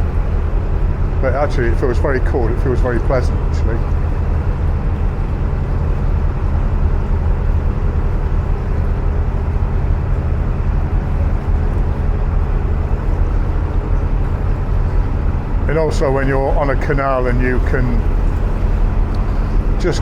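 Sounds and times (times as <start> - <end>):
diesel engine chugging: 0.0 - 20.0.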